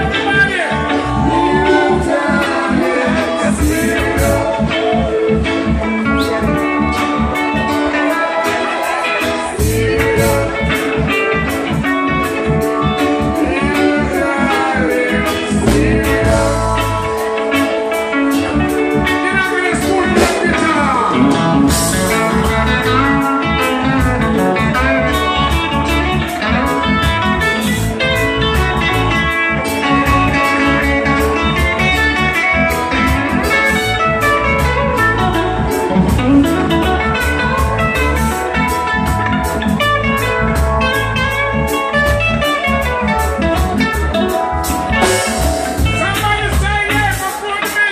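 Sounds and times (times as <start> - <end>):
electric guitars: 0.0 - 47.9
live band playing loud: 0.0 - 47.9.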